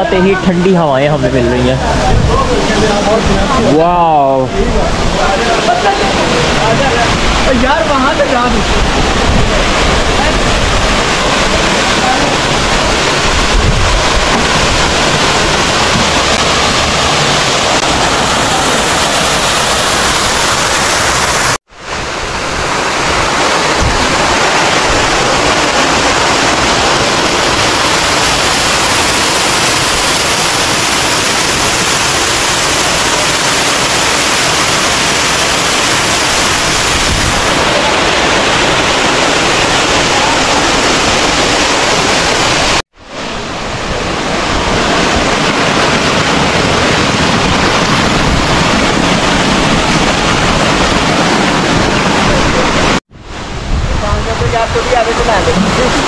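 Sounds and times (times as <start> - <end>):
waterfall rushing onto stones: 0.0 - 53.2, 54.2 - 56.0.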